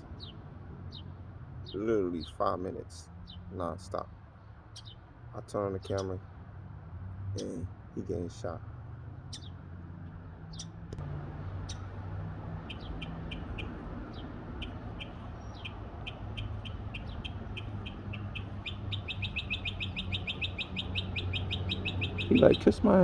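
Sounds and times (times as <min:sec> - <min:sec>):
bird singing: 0:00.0 - 0:06.4, 0:09.2 - 0:09.7, 0:10.4 - 0:23.0.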